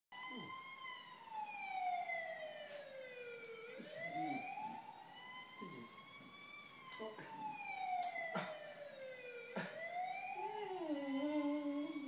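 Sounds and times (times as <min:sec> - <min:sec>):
ambulance siren wailing: 0:00.1 - 0:12.0.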